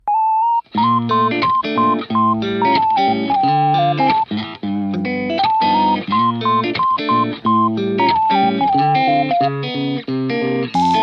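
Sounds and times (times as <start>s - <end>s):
electric guitar tune: 0.6s - 11.0s.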